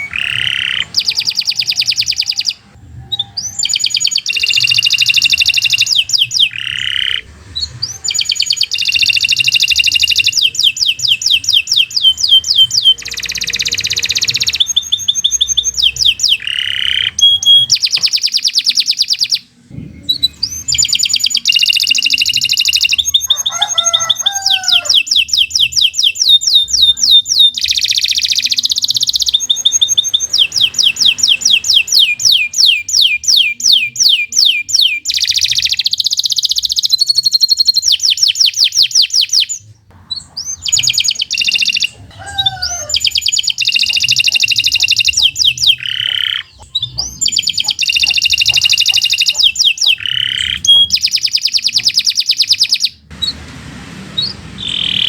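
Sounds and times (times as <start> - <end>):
canary singing trills: 0.0 - 53.4, 54.1 - 55.0.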